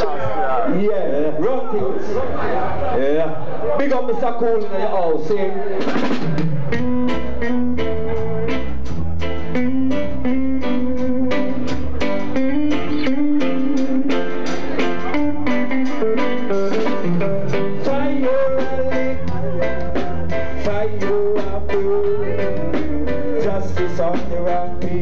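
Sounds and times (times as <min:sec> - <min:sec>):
live reggae band playing: 0:00.0 - 0:25.0.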